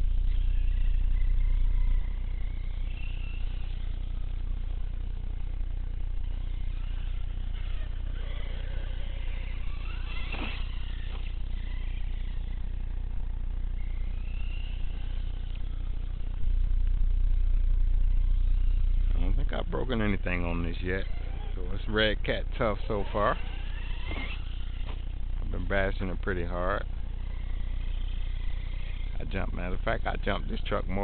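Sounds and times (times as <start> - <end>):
electric motor whining: 0.0 - 31.0
low rumble: 0.0 - 31.0.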